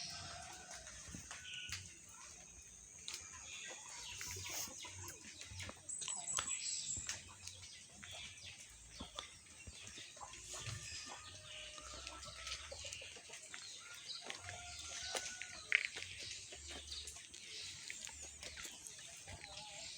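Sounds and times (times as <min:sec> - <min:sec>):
chickens clucking: 0:00.0 - 0:19.9
small birds chirping: 0:00.0 - 0:19.9.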